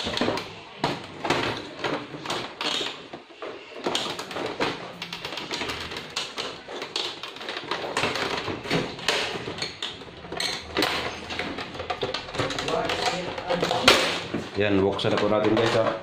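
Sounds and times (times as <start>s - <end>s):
plastic clicks and knocks: 0.0s - 16.0s.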